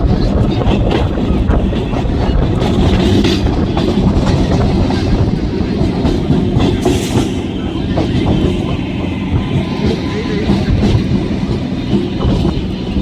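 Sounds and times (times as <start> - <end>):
train rumbling on track: 0.0 - 13.0
wheels clacking over rail joints: 0.0 - 13.0.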